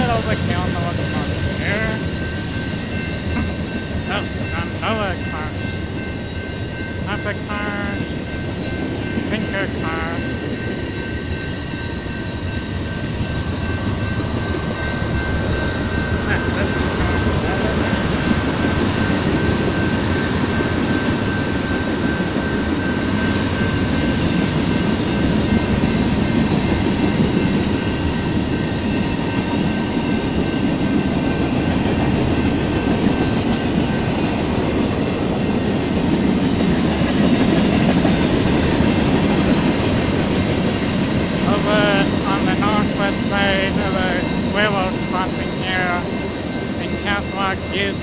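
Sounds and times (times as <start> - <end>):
steel wheels rumbling on rail: 0.0 - 48.0.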